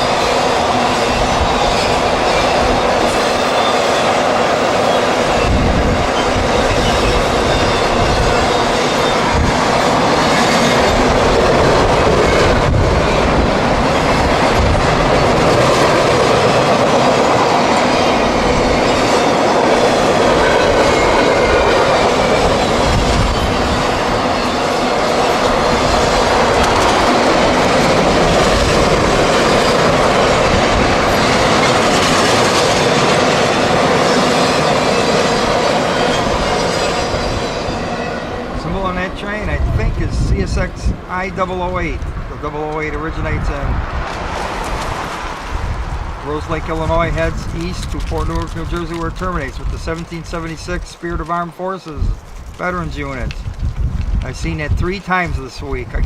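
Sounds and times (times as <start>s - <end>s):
train wheels running over rails: 0.0s - 56.0s.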